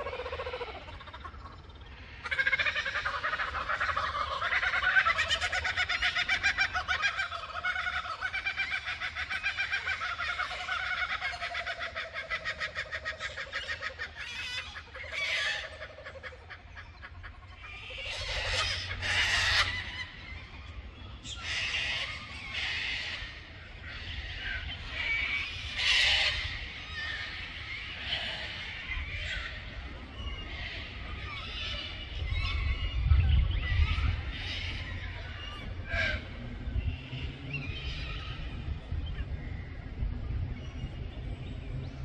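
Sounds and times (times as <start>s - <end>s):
harsh bird calls: 0.0s - 42.0s.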